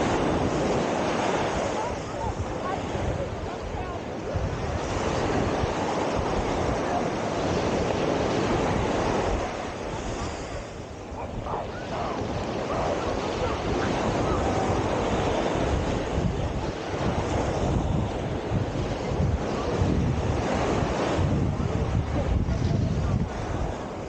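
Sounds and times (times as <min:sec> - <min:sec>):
faint voices: 0:00.0 - 0:24.0
surf washing: 0:00.0 - 0:24.0
wind buffeting microphone: 0:00.0 - 0:24.0.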